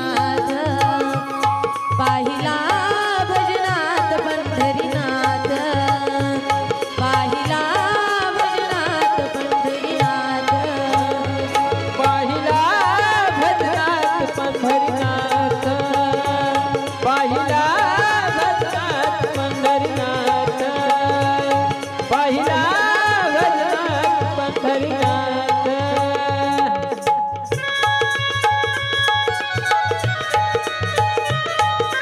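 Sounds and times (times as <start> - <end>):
dholak drumming: 0.0 - 32.0.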